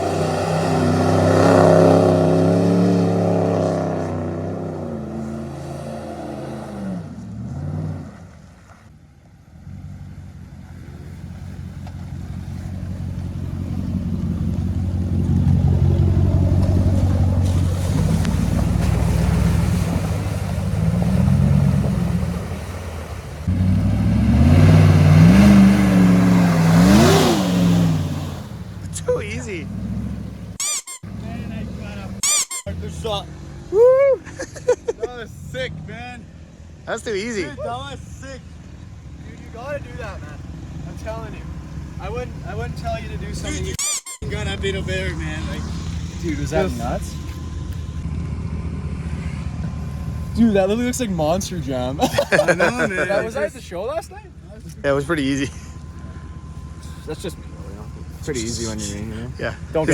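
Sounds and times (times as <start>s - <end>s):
truck engine revving: 0.0s - 8.4s, 9.6s - 59.9s.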